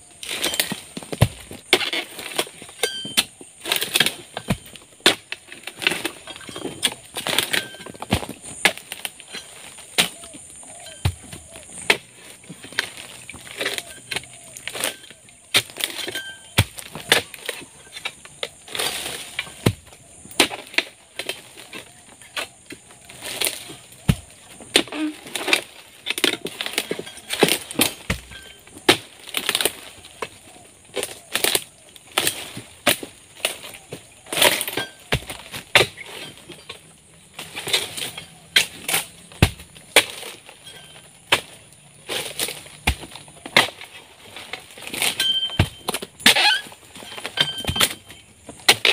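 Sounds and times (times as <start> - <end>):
palm fronds rustling: 0.0 - 48.9
sickle cracking through stalks: 0.2 - 48.9.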